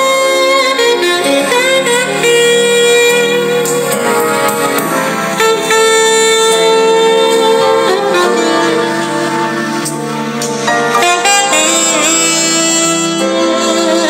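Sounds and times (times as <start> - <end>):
smooth jazz saxophone from speakers: 0.0 - 14.0.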